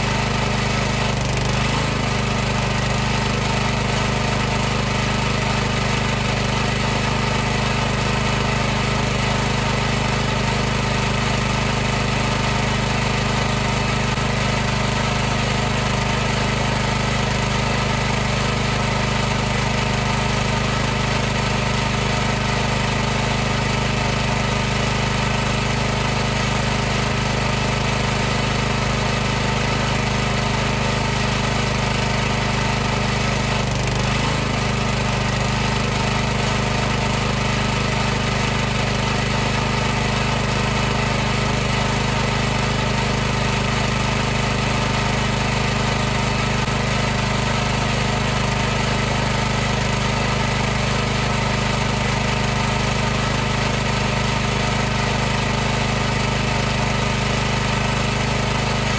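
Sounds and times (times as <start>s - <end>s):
pressure washer pump humming: 0.0s - 58.9s.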